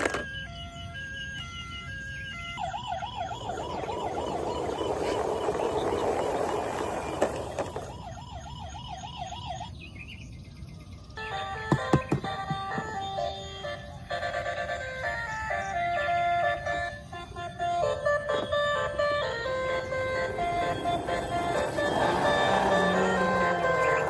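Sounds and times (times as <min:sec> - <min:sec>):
electronic toy siren: 0:00.0 - 0:09.8, 0:11.2 - 0:24.0.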